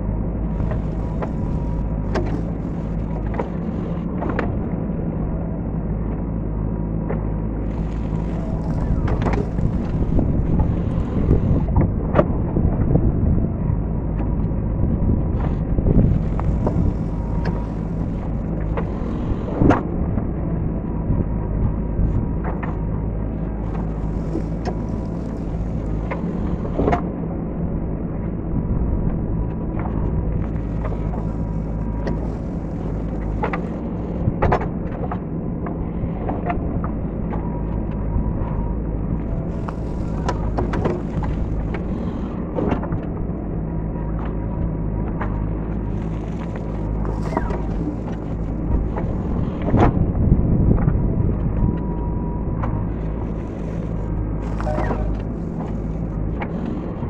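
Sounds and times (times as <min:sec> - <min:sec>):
diesel engine running: 0:00.0 - 0:34.8, 0:36.6 - 0:57.0.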